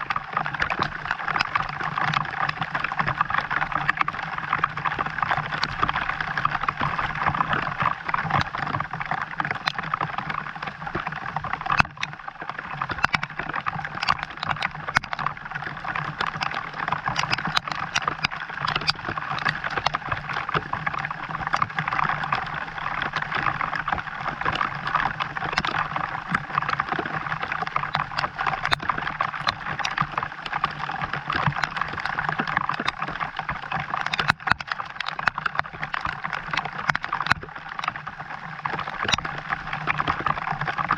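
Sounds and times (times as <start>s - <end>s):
raindrops ticking close by: 0.0s - 40.9s.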